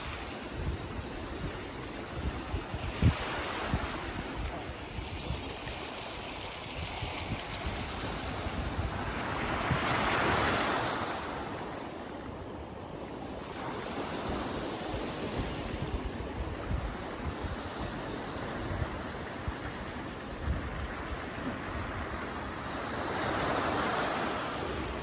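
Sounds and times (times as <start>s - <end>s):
wind buffeting microphone: 0.0s - 11.6s, 13.0s - 24.1s.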